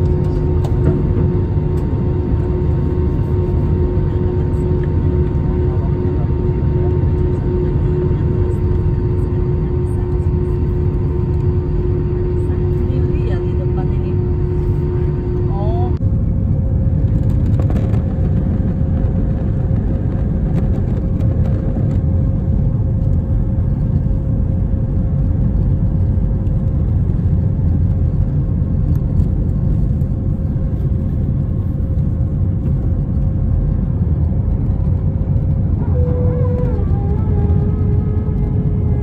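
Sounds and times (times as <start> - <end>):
jet engine whine: 0.0 - 39.0
jet engines roaring at takeoff: 0.0 - 39.0.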